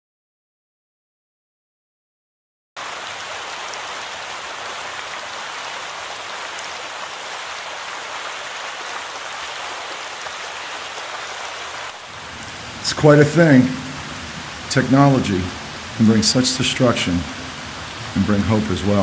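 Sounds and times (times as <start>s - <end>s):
steady rain hiss: 2.8s - 19.0s.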